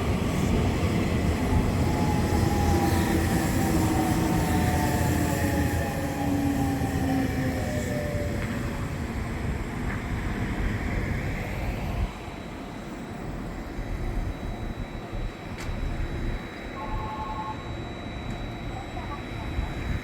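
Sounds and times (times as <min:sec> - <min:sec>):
electric train motor whine: 0:00.0 - 0:20.0
train rumble on rails: 0:00.0 - 0:20.0.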